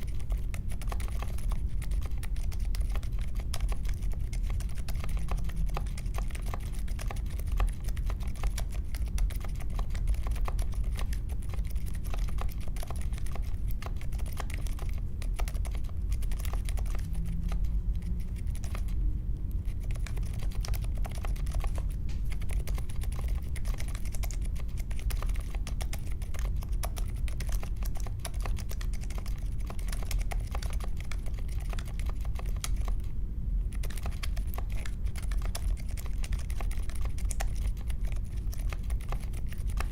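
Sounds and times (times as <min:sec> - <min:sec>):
mechanical keyboard typing: 0:00.0 - 0:19.0, 0:19.6 - 0:33.1, 0:33.7 - 0:39.9.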